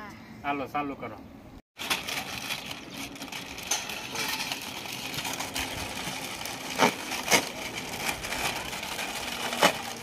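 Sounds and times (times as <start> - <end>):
plastic crisp packets crinkling: 1.8 - 10.0.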